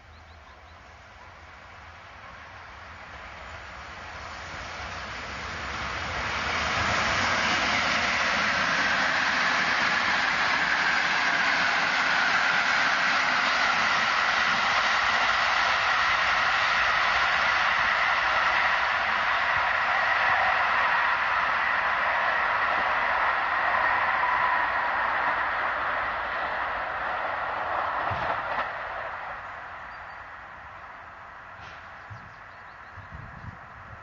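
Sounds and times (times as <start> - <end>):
passenger train passing: 0.0 - 34.0.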